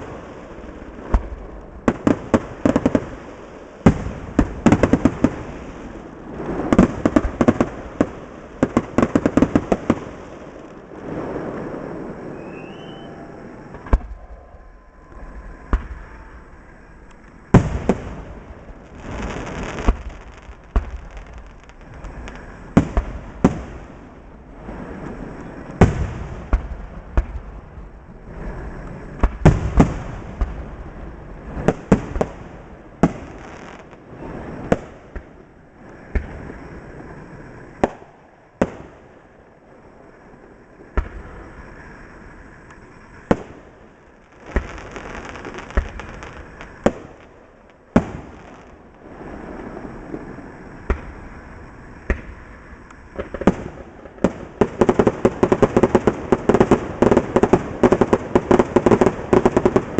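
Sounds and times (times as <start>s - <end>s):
fireworks bangs: 0.0s - 39.3s, 40.8s - 41.8s, 43.1s - 59.9s.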